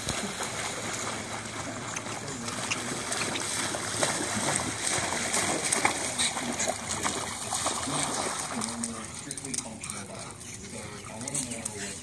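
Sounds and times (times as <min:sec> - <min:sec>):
dogs splashing through shallow water: 0:00.0 - 0:12.0.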